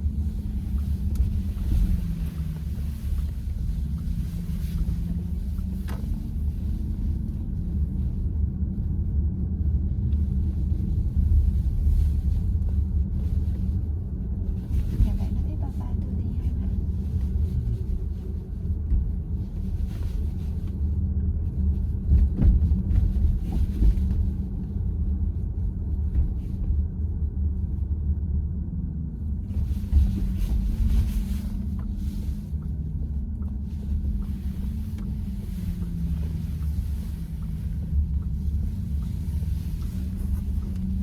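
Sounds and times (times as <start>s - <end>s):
road and tyre rumble in car cabin: 0.0s - 41.0s.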